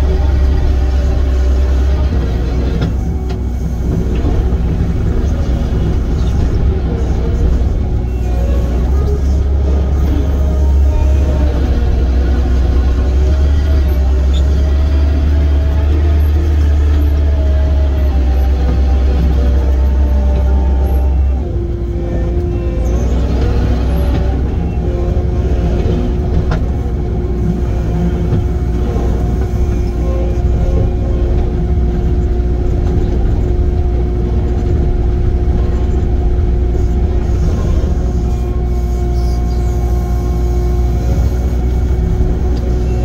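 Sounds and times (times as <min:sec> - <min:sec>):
diesel engine humming and whining: 0:00.0 - 0:43.0.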